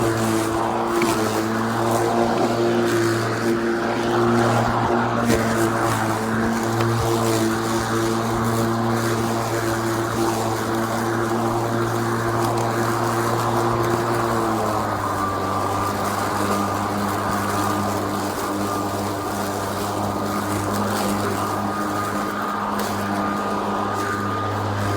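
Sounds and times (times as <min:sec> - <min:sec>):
motor running with even hum: 0:00.0 - 0:24.9.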